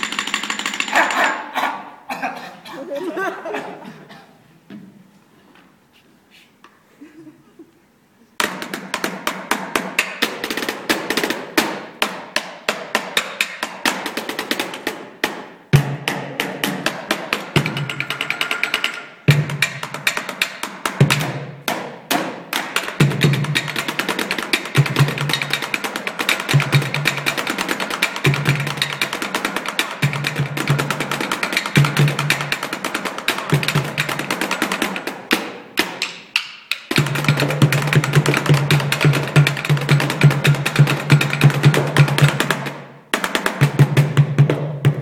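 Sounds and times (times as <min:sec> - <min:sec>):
drumsticks playing on chairs: 0:00.0 - 0:02.4, 0:08.4 - 0:45.0.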